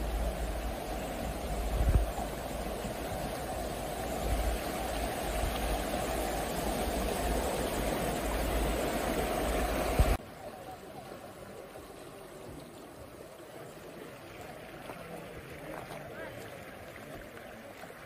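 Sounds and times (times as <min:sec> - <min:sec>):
stream rushing over rapids: 0:00.0 - 0:18.0.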